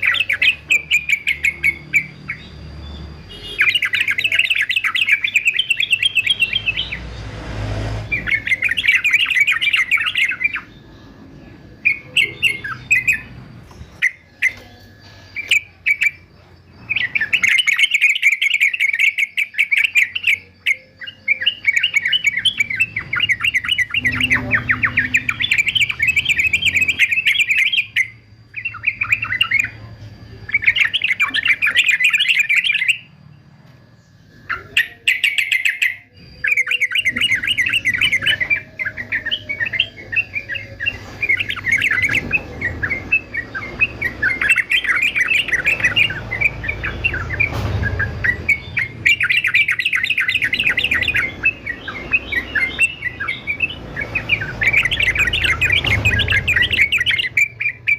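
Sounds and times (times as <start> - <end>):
bird singing bubbling chatter: 0.0 - 7.3, 8.0 - 57.9.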